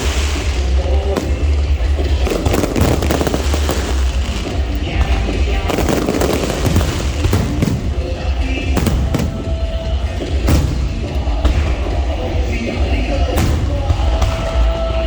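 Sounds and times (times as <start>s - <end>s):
fireworks cracks and bangs: 0.0s - 15.0s
steady low rumble: 0.0s - 15.0s.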